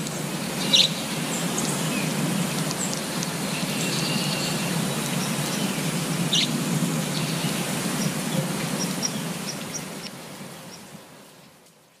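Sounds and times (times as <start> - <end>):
rain on foliage: 0.0 - 12.0.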